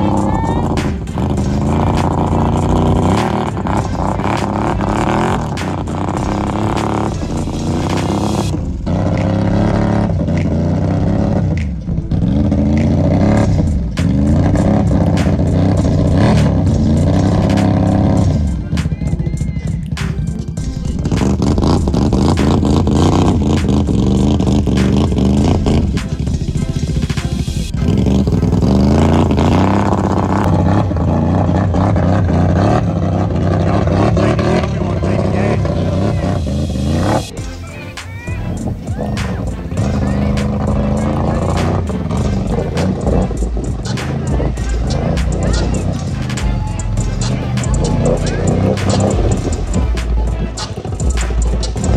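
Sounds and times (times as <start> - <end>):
vehicle driving through mud water: 0.0 - 18.6, 20.8 - 37.3, 38.4 - 51.9
atv engine revving: 0.0 - 51.9.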